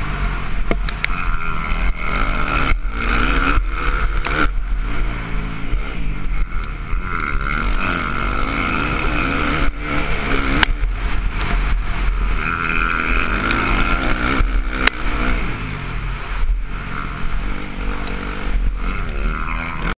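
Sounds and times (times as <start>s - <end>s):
motocross bike engine revving: 0.0s - 20.0s
wind rumble on microphone: 0.0s - 20.0s.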